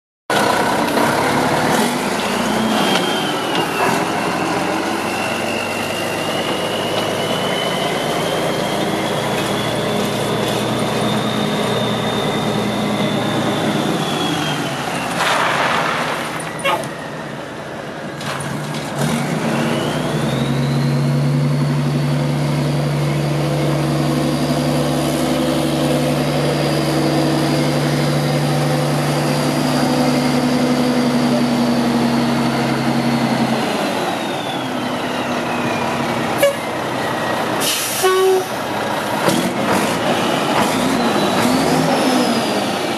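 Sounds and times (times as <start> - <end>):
diesel truck engine revving: 0.3 - 42.9.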